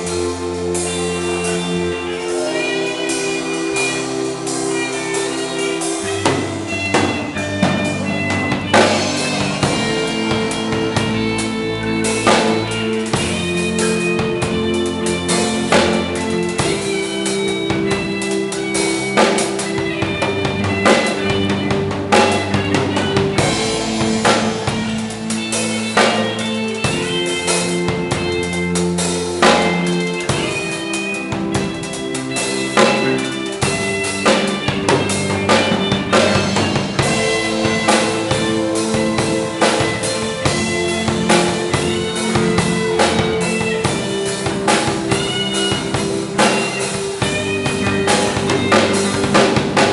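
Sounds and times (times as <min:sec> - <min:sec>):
instrumental band playing: 0:00.0 - 0:49.9.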